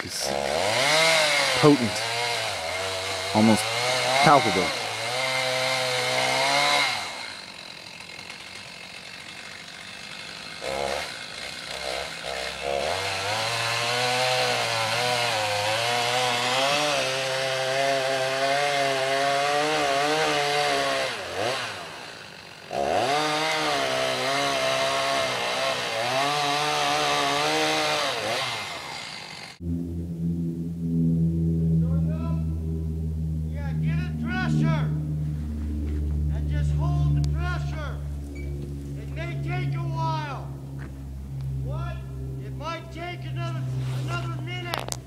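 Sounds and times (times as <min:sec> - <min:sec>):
chainsaw cutting wood: 0:00.0 - 0:29.6, 0:36.0 - 0:41.5, 0:43.0 - 0:45.0.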